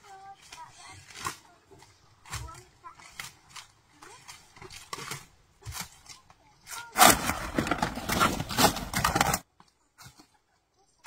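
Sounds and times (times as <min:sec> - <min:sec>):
scraping and rubbing with clicks: 0:00.0 - 0:10.4.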